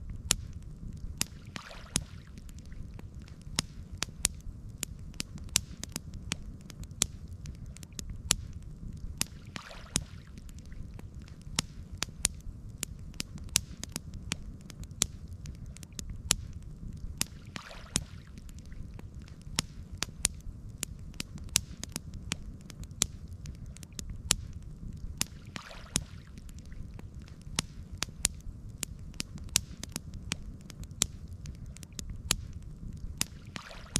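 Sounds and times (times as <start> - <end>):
low fire rumble: 0.0 - 33.6
campfire crackles and pops: 0.0 - 33.9.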